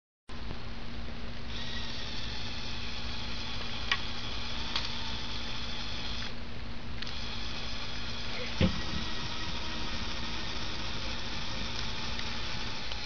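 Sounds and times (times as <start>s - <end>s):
small electric motor whining: 1.5s - 6.4s, 7.0s - 13.0s.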